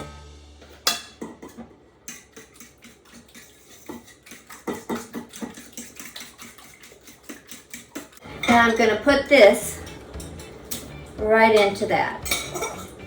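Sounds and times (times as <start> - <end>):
utensil clinking against a bowl: 0.6 - 13.0.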